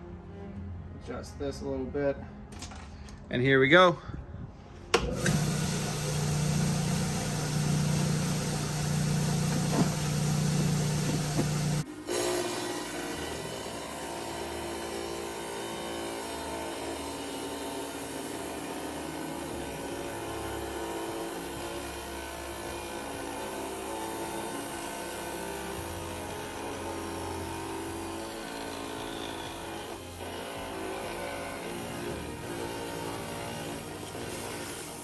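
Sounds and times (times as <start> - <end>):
saw cutting stone: 5.1 - 35.0.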